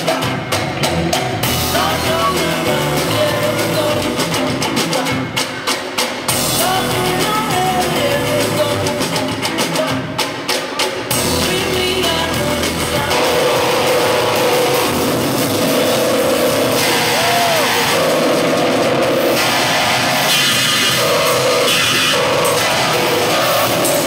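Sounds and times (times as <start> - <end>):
drums: 0.0 - 24.0
keyboards: 0.0 - 24.0
rock guitars: 0.0 - 24.0.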